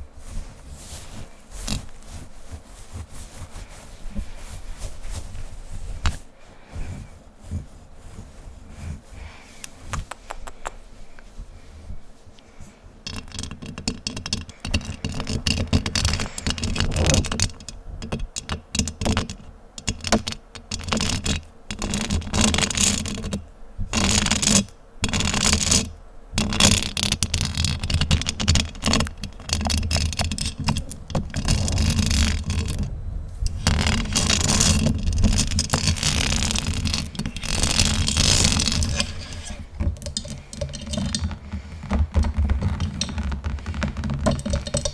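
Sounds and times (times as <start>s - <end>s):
fingers scratching on microphone: 0.0s - 6.2s, 9.7s - 11.2s, 13.0s - 44.9s.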